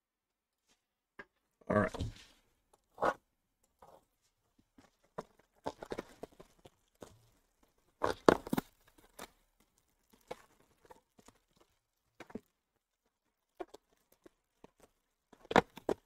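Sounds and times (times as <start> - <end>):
crinkling and rustling of packaging: 2.0 - 16.0.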